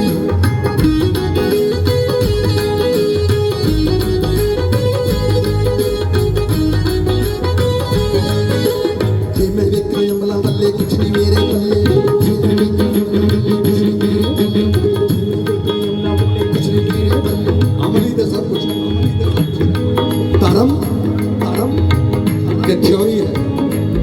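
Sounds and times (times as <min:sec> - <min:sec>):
drums: 0:00.0 - 0:24.0
held melody notes: 0:00.0 - 0:24.0.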